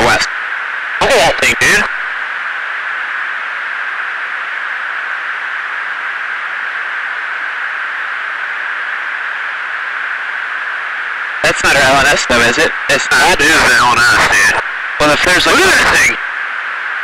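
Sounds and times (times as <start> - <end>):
intercom static hiss: 0.0 - 17.0.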